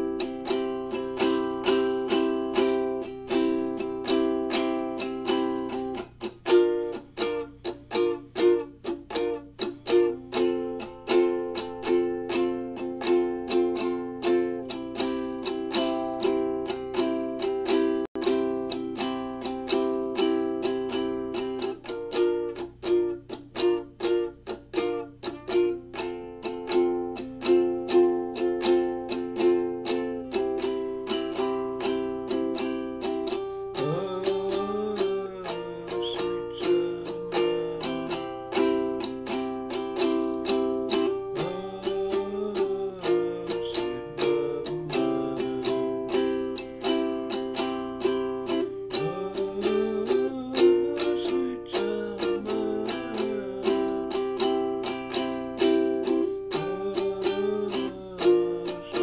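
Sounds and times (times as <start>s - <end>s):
ukulele picking: 0.0s - 59.0s.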